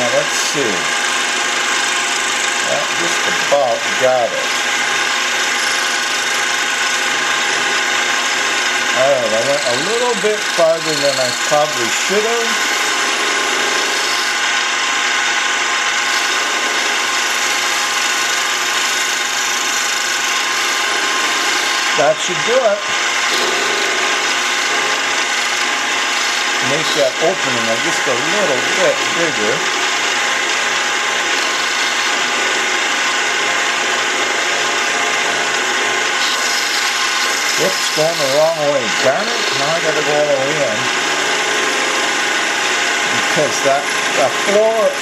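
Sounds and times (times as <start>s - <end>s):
cutter milling metal: 0.0s - 45.0s
lathe motor whining: 0.0s - 45.0s.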